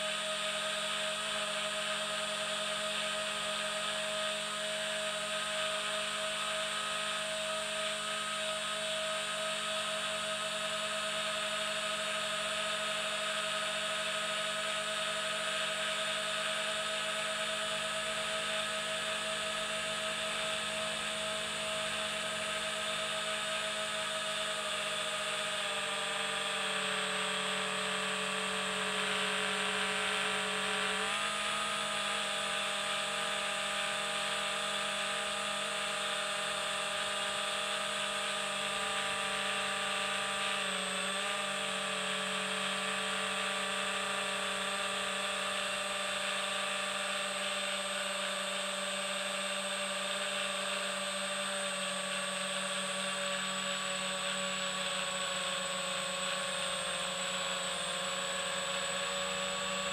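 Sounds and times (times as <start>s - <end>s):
model aircraft motor whine: 0.0s - 59.9s.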